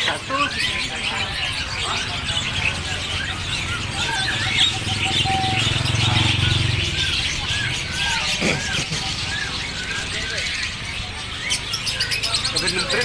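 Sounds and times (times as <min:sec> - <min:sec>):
songbirds chirping and twittering: 0:00.0 - 0:13.0.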